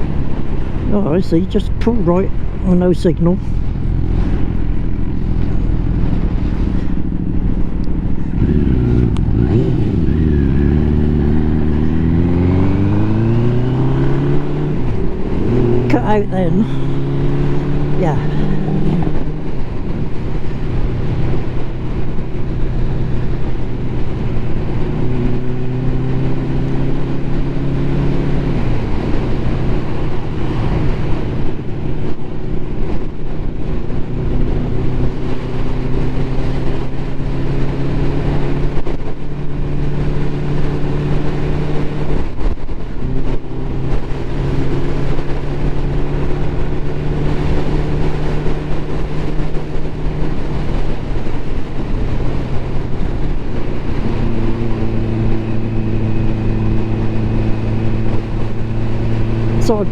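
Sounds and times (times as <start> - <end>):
motorcycle engine running: 0.0 - 59.9
road and wind rush: 0.0 - 59.9.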